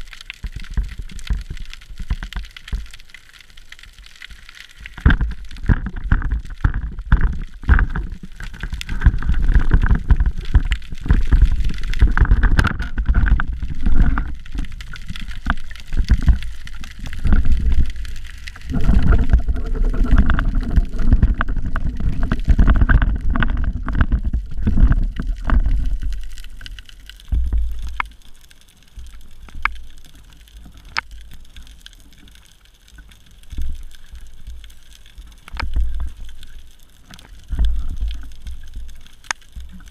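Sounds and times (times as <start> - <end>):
underwater rumble and churning: 0.0 - 39.9.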